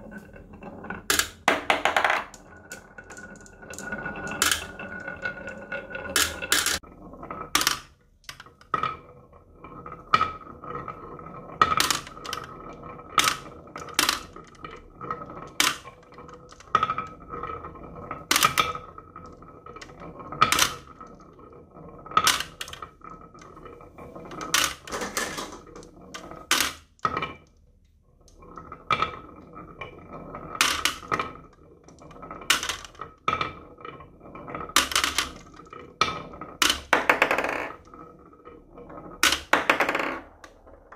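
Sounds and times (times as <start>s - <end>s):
marbles clinking in plastic trailer: 0.0s - 6.9s, 10.0s - 21.5s, 22.1s - 27.4s, 28.6s - 40.9s
marbles clacking against wood: 0.0s - 27.6s, 28.3s - 40.9s
marbles rolling on wooden tracks: 0.0s - 40.9s.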